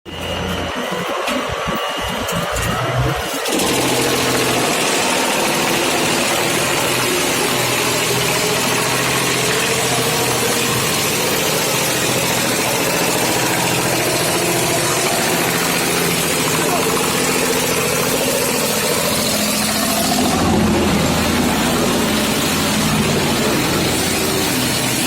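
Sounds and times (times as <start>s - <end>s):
wood chipper running: 0.1s - 25.0s.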